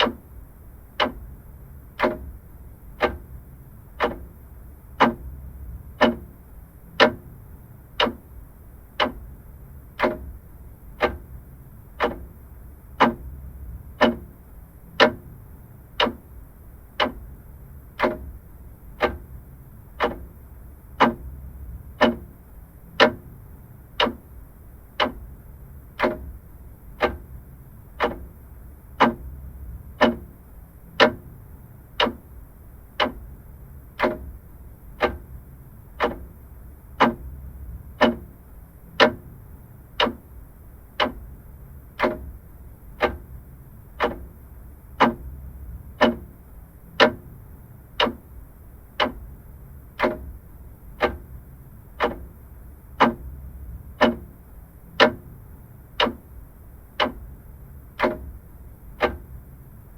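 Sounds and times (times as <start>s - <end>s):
clock ticking: 0.0s - 59.9s
faint low hum: 0.0s - 59.9s.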